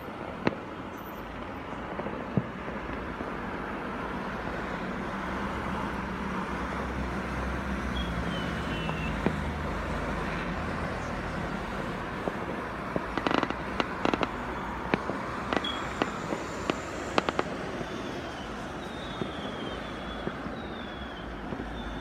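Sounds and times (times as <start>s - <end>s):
distant fireworks bangs and crackles: 0.0s - 22.0s
vehicle engine rumble: 0.0s - 22.0s.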